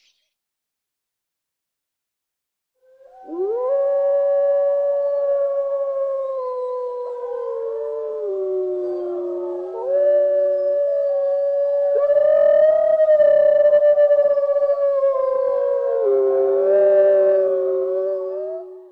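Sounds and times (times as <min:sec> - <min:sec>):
dogs howling in chorus: 0:02.8 - 0:18.9.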